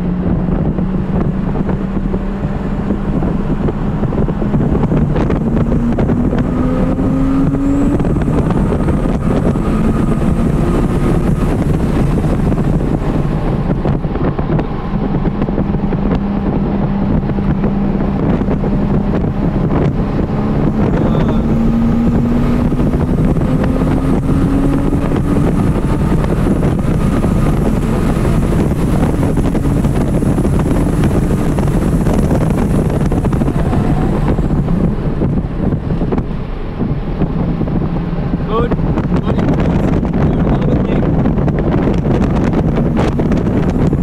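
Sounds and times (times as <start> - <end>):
car engine revving: 0.0 - 44.0
wind and road noise: 0.0 - 44.0.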